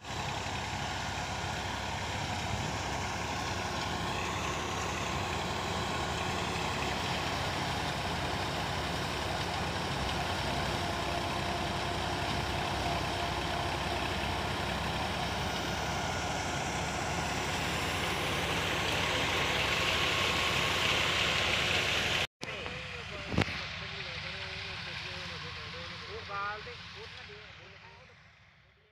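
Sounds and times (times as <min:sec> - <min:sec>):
thresher whirring: 0:00.0 - 0:23.4
tractor diesel engine running: 0:00.0 - 0:28.9.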